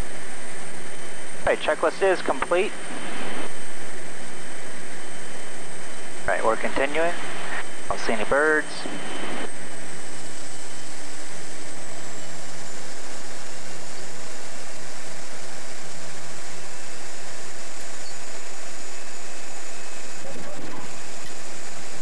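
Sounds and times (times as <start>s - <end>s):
high turbine whine: 0.0s - 22.0s
turboprop engine and propeller: 0.0s - 22.0s.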